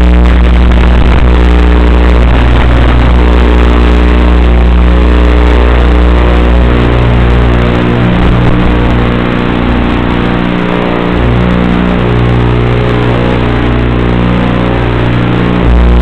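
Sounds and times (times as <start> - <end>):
electric motors and propellers humming: 0.0 - 16.0.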